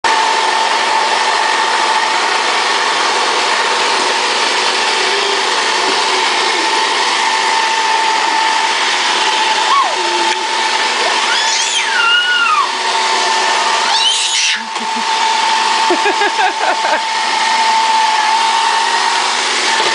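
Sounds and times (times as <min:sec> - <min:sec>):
robot vacuum whirring: 0:01.7 - 0:19.9.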